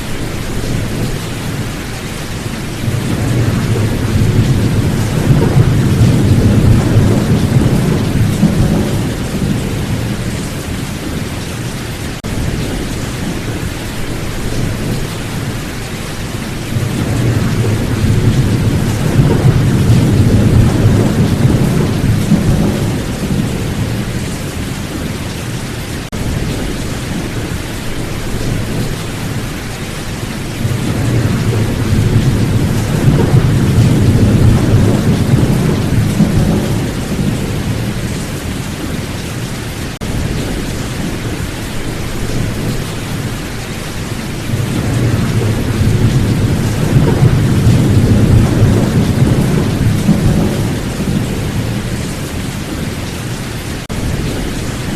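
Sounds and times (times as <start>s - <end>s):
rolling thunder: 0.0s - 39.1s, 39.9s - 53.1s
heavy rain: 0.0s - 54.9s.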